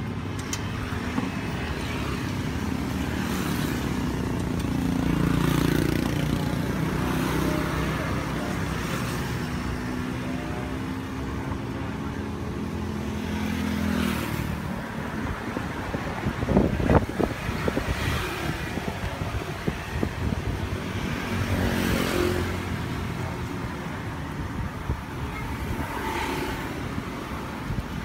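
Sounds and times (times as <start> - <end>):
motor vehicle engines running: 0.0 - 28.0.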